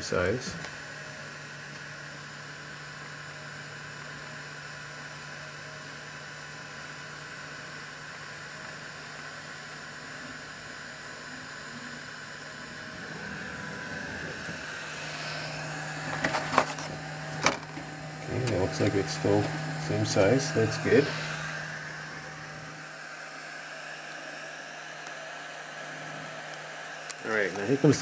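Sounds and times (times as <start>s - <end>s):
laser engraver humming: 0.0s - 28.0s.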